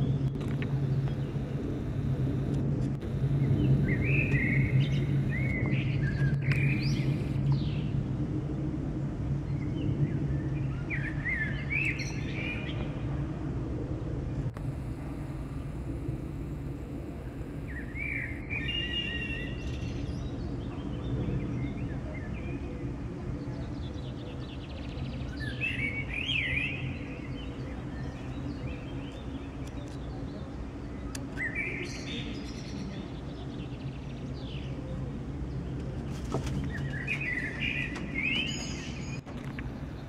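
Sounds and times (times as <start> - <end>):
songbirds chirping: 0.0 - 8.0, 9.4 - 13.1, 14.6 - 40.0
jet airliner droning overhead: 0.0 - 40.0.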